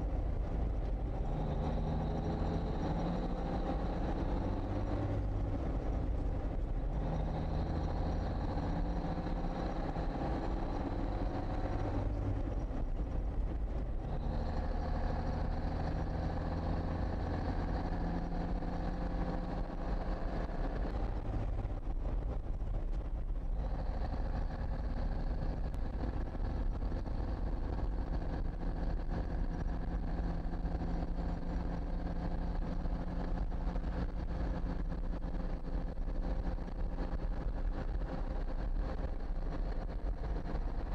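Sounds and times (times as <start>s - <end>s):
diesel truck engine under load: 0.0s - 40.9s.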